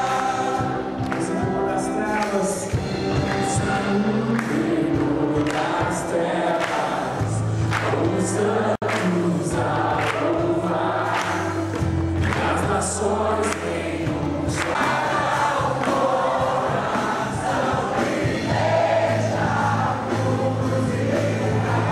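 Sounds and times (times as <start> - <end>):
sustained bass notes: 0.0 - 21.9
choir singing: 3.4 - 21.9.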